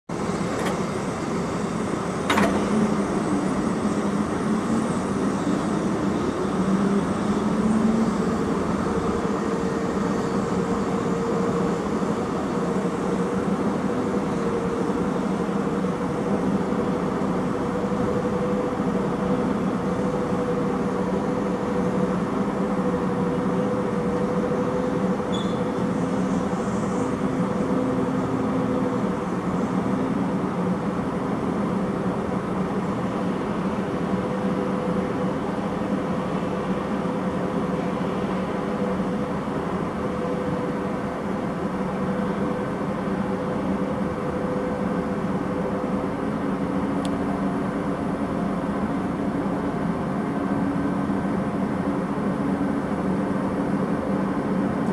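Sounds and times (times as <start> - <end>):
city noise: 0.0 - 54.9
machinery hum: 0.1 - 54.9.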